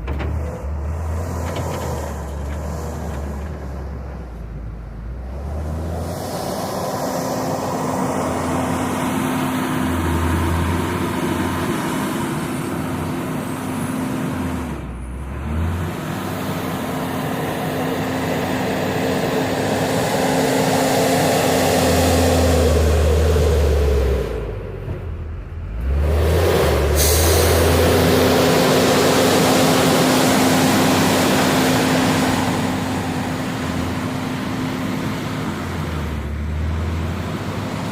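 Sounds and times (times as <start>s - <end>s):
diesel engine revving: 0.0s - 37.9s.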